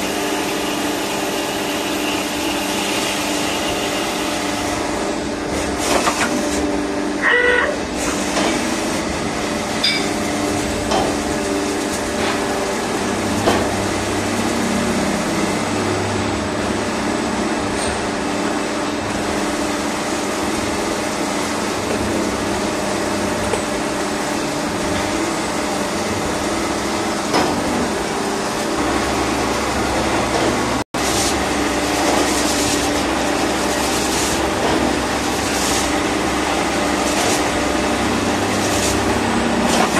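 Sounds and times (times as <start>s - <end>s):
lathe humming: 7.8s - 39.9s.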